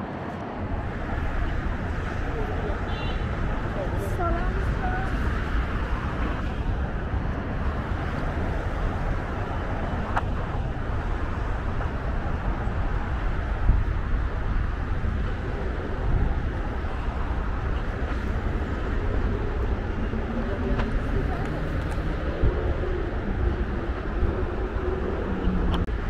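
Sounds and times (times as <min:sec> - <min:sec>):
highway traffic: 0:00.0 - 0:26.0.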